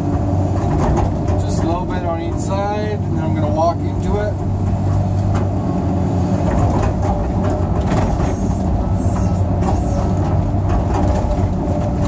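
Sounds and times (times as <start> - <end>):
excavator engine humming: 0.0 - 12.0.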